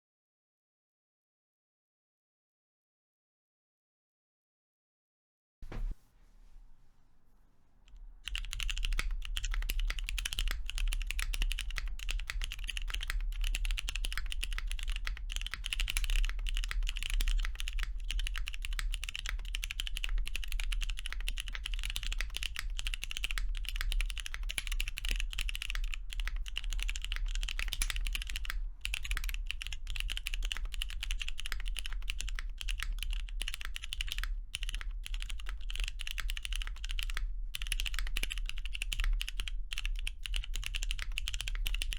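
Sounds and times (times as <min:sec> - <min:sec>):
mechanical keyboard typing: 0:08.2 - 0:41.9.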